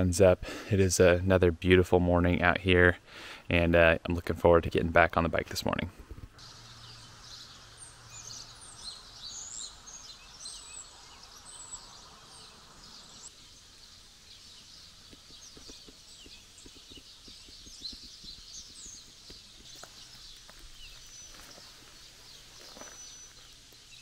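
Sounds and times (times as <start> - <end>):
small birds chirping: 2.2 - 24.0.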